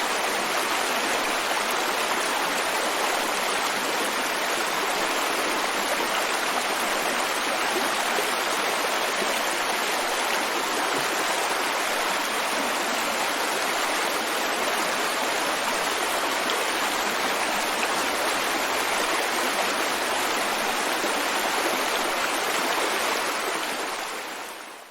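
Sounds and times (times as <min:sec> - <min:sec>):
water rushing over rocks: 0:00.0 - 0:24.9.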